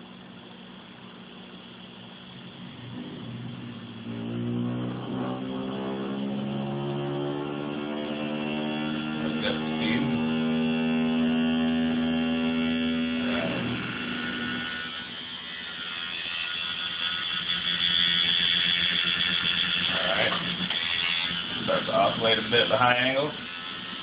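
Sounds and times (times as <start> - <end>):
electric motor humming: 0.0 - 24.0
high motor whine: 0.0 - 24.0.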